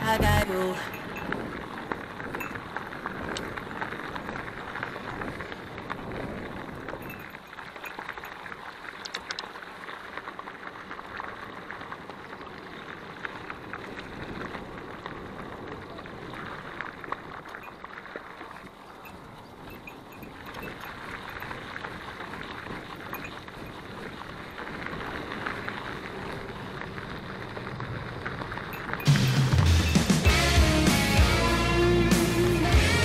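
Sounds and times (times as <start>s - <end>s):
bike tyre crunch on trail: 0.0s - 31.2s
bike clicks and rattles: 0.9s - 30.3s.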